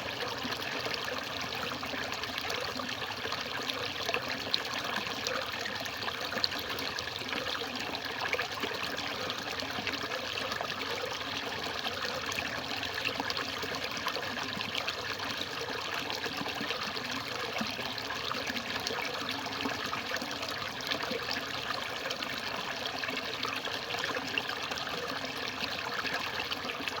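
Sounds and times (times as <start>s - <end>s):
water trickling and splashing: 0.0s - 27.0s.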